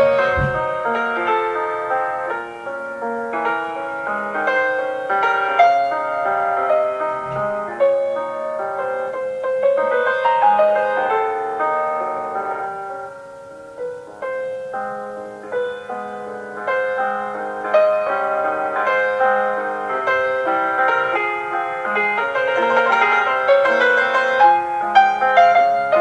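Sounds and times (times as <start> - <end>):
classical piano music: 0.0 - 26.0.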